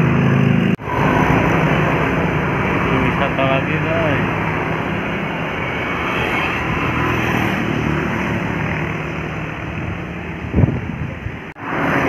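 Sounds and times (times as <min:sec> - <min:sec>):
bus passing by: 0:00.0 - 0:12.0.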